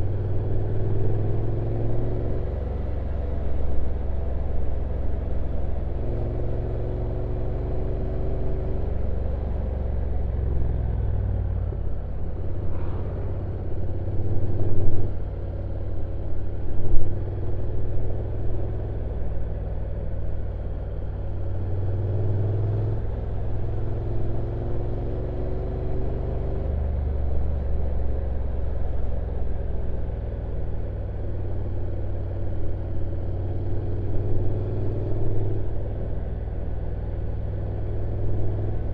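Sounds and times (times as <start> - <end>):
motorcycle engine low rumble: 0.0 - 38.9.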